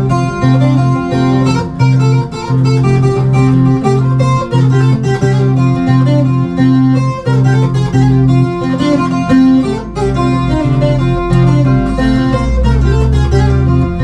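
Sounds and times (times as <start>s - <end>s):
acoustic guitar duet: 0.0s - 14.0s.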